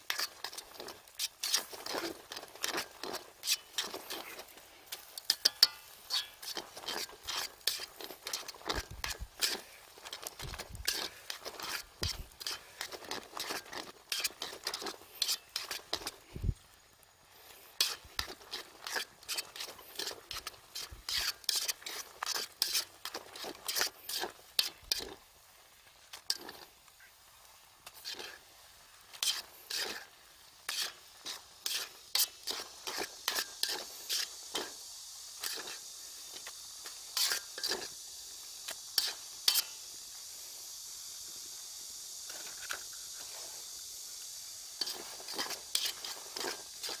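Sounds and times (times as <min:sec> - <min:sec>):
utensil scraping a pan: 0:00.0 - 0:16.5, 0:17.4 - 0:25.2, 0:26.1 - 0:26.8, 0:27.8 - 0:34.8, 0:35.4 - 0:38.0, 0:38.9 - 0:39.8, 0:44.8 - 0:47.0
food sizzling: 0:00.0 - 0:47.0.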